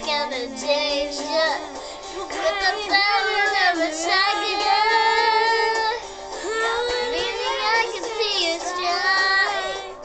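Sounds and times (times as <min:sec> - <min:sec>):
girls singing a pop song: 0:00.0 - 0:10.0.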